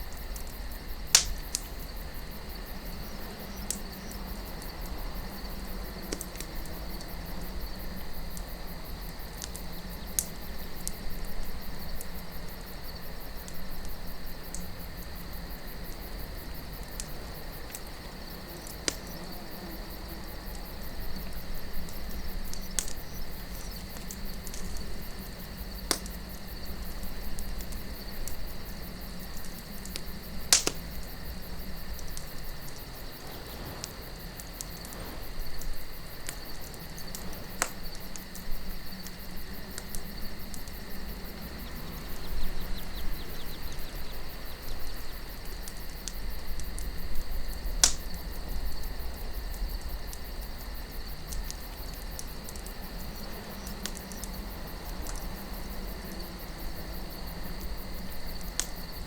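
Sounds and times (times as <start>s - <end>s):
campfire crackling and popping: 0.0s - 59.0s
soft low wind: 0.0s - 59.0s.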